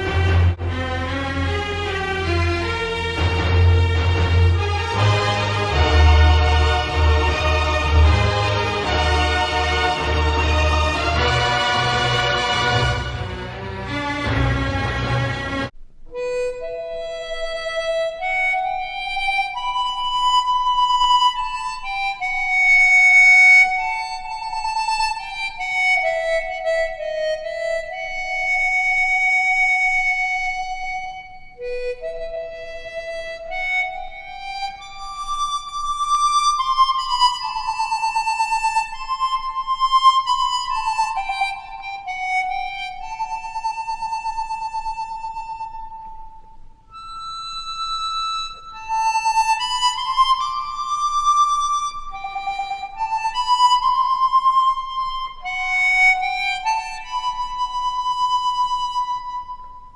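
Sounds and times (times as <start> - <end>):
harmonica playing slow melody: 0.0 - 59.9.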